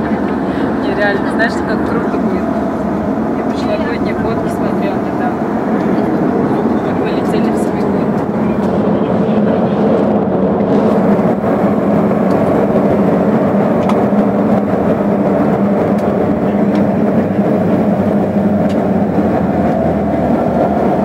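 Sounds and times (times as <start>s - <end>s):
propeller engines droning: 0.0s - 21.0s.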